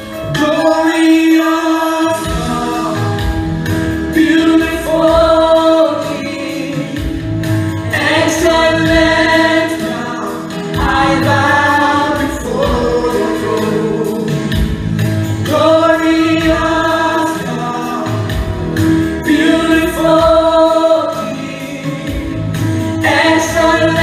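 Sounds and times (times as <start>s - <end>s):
instrumental accompaniment with beat: 0.0s - 24.0s
women singing into microphones: 0.4s - 3.5s, 4.1s - 7.3s, 7.9s - 24.0s.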